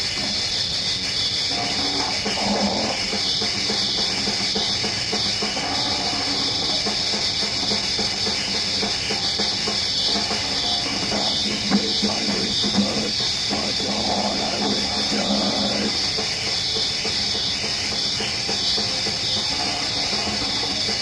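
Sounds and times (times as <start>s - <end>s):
fast drums: 0.0s - 21.0s
distorted metal guitar: 1.4s - 16.7s, 18.8s - 21.0s.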